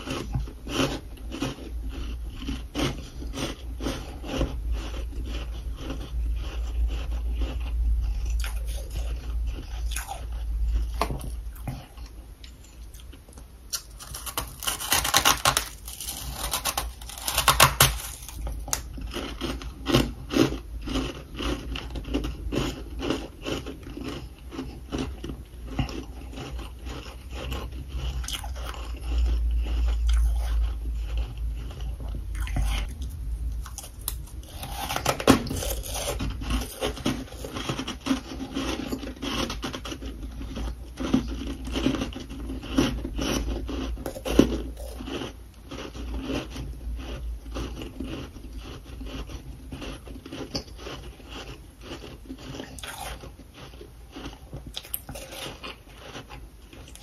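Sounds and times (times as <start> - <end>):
frost being chewed crunches: 0.0 - 57.0.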